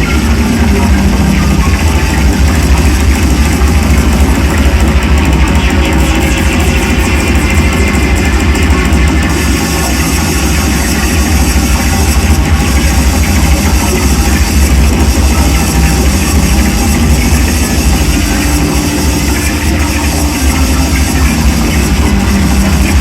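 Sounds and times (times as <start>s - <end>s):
distorted drone noise music: 0.0s - 23.0s.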